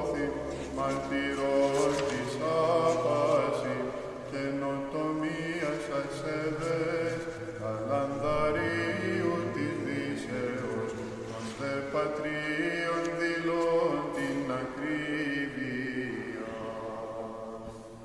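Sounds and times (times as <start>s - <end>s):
low held vocal drone: 0.0s - 18.0s
ornamented chanted hymn: 0.0s - 18.0s.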